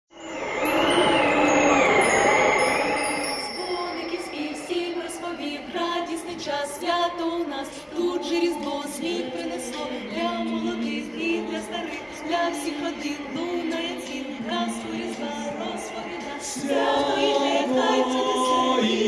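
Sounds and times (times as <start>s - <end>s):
choir singing a cappella: 0.2s - 19.0s.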